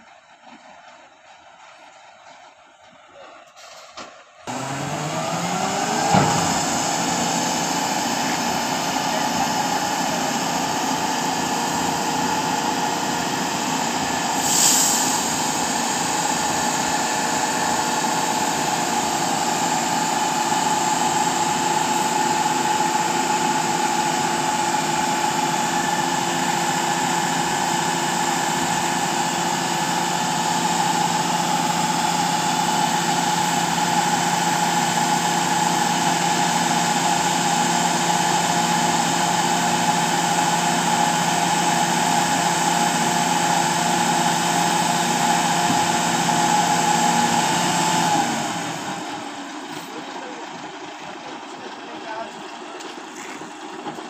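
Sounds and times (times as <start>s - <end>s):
diesel engine running with whine: 0.0s - 54.0s.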